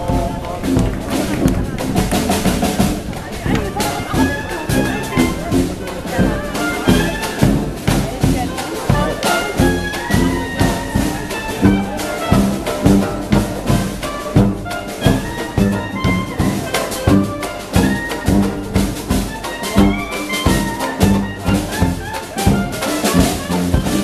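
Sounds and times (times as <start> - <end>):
marching jazz band playing: 0.0 - 24.0.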